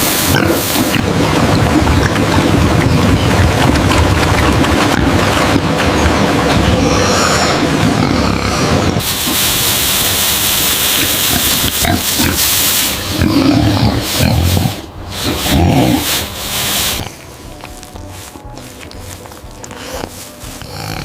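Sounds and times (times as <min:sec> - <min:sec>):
pigs calling: 0:00.0 - 0:21.0
steady rushing noise: 0:00.0 - 0:21.0.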